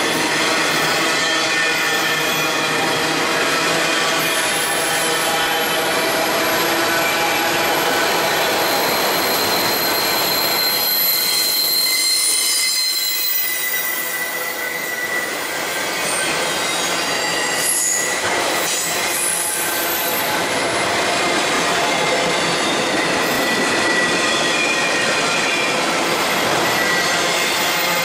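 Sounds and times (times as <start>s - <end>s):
train wheels rumbling on rail: 0.0s - 28.0s
high-pitched wheel squeals: 4.0s - 20.9s, 21.8s - 28.0s.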